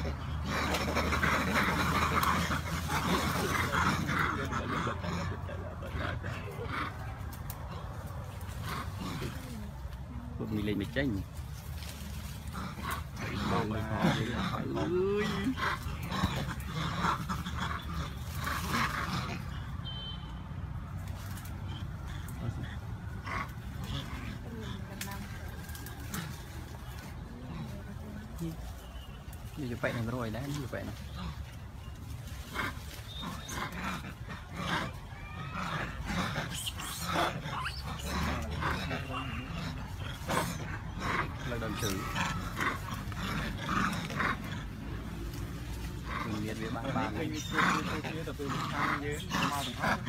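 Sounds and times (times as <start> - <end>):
monkeys squealing and screeching: 0.0 - 19.8, 20.8 - 50.0
macaques calling: 0.0 - 50.0.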